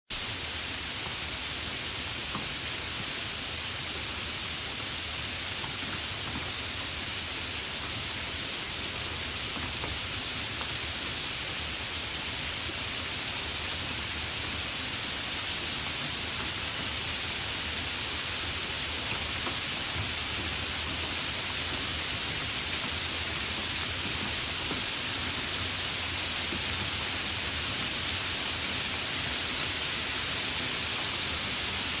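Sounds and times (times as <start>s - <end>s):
light rain hissing: 0.1s - 32.0s
raindrop ticks: 1.0s - 2.8s, 4.8s - 11.2s, 11.8s - 29.8s.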